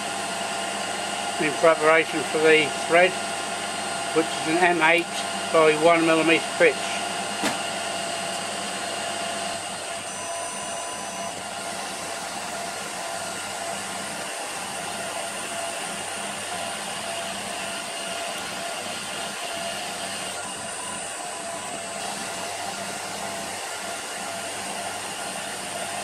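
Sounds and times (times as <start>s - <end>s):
faint machine whines: 0.0s - 26.0s
lathe motor and spindle whir: 0.0s - 26.0s.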